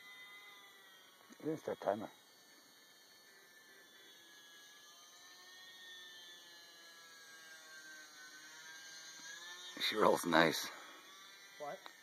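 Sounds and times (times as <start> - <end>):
small electric motor whine: 0.0 - 12.0.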